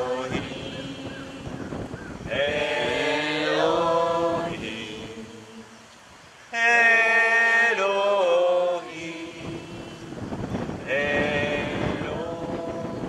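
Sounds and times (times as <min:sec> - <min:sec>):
choir chanting: 0:00.0 - 0:01.6, 0:02.3 - 0:05.9, 0:06.6 - 0:13.0.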